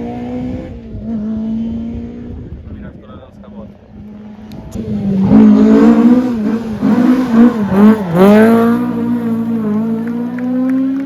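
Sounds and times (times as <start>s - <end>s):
rally car engine revving: 0.0s - 2.8s, 3.4s - 11.0s.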